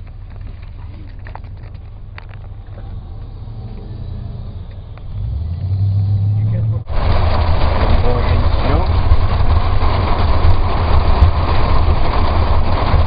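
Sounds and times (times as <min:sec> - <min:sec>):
car driving rumble: 0:00.0 - 0:13.0
low hum: 0:00.0 - 0:13.0.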